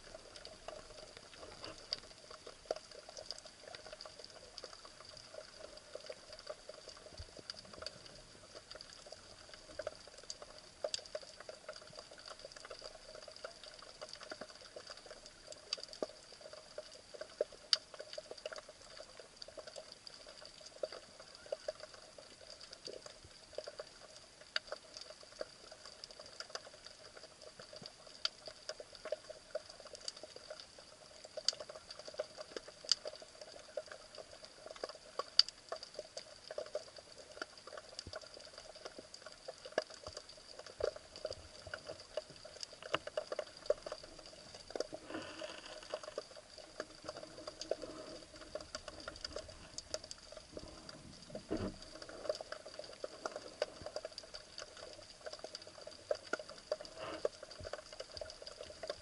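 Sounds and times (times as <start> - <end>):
faint steady hum: 0.0 - 59.0
underwater clicks and crackles: 0.0 - 59.0.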